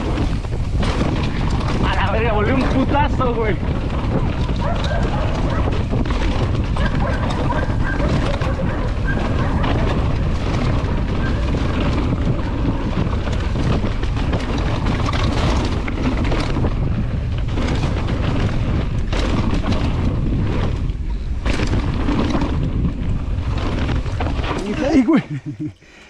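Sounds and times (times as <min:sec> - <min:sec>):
bike knocking and rattling: 0:00.0 - 0:25.6
wind rumbling on microphone: 0:00.0 - 0:25.8.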